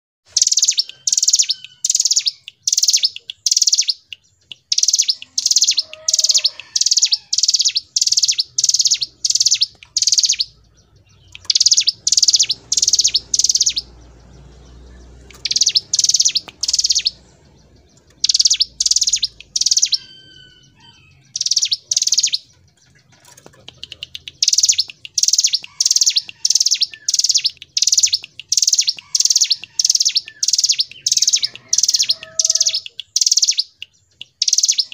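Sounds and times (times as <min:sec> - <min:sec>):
bird singing high notes: 0:00.3 - 0:22.5, 0:24.3 - 0:33.8.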